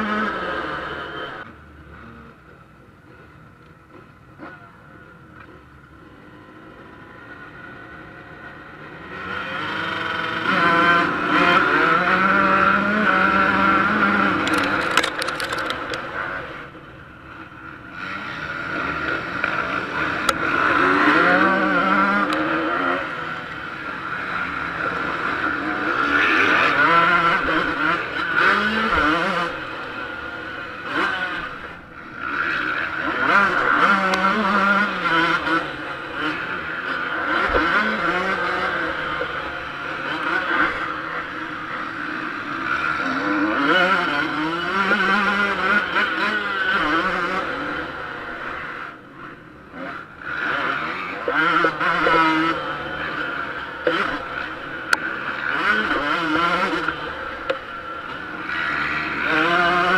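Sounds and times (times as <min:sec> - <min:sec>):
motocross engine revving: 0:00.0 - 0:02.4, 0:05.4 - 0:59.9.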